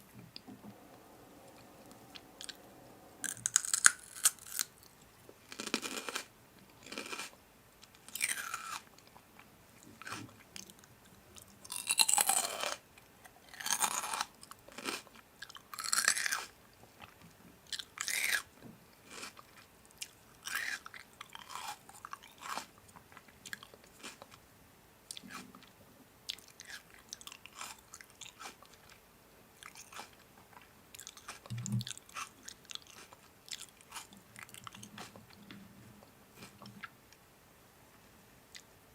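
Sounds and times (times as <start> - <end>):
crunchy food being chewed: 0.4 - 24.4, 25.1 - 29.0, 29.6 - 37.0.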